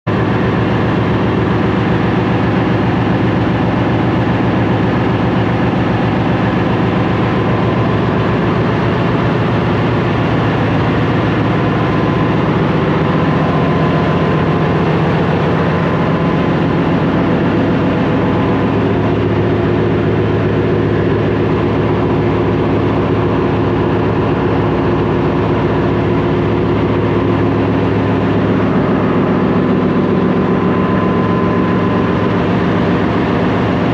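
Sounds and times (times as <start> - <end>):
diesel machinery drone: 0.1 - 33.9.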